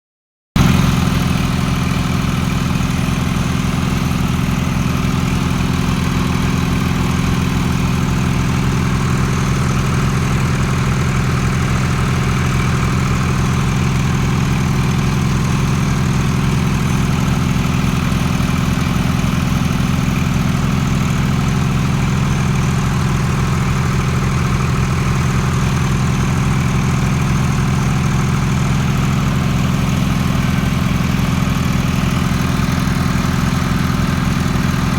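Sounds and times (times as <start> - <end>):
pump motor droning: 0.6 - 34.9.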